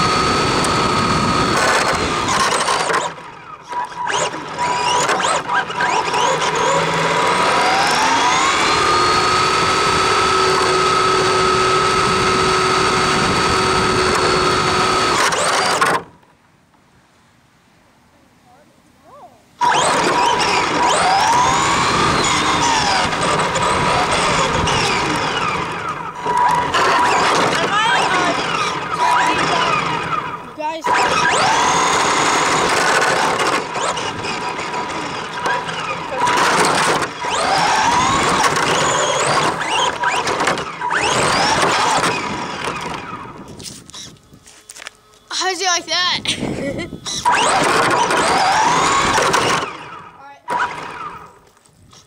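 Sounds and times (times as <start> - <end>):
toy car motor whining: 0.0 - 16.1, 19.6 - 52.0
tyre and gear noise: 0.0 - 16.2, 19.6 - 52.0
wheels rushing on concrete: 0.0 - 16.3, 19.6 - 52.0.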